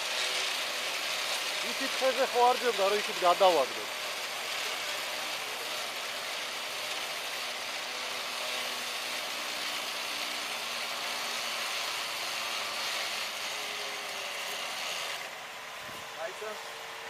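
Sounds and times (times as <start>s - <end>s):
electric winch motor whirring: 0.0s - 17.0s.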